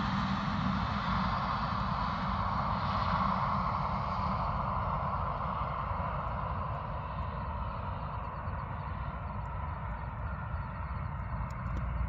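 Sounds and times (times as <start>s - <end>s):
distant engine drone: 0.0s - 12.0s.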